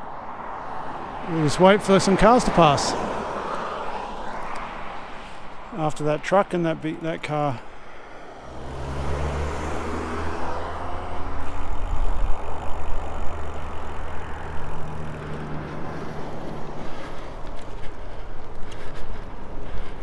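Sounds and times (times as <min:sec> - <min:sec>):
highway traffic passing: 0:00.0 - 0:20.0.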